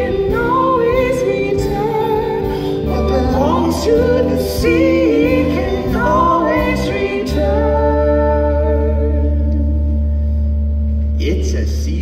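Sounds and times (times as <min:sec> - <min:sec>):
person singing: 0:00.0 - 0:09.9
sustained chord with deep bass: 0:00.0 - 0:12.0.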